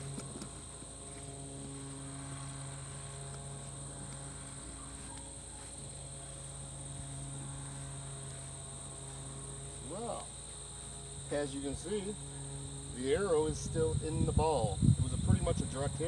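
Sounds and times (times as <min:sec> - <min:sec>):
insects trilling: 0:00.0 - 0:16.0
low steady hum: 0:00.0 - 0:16.0.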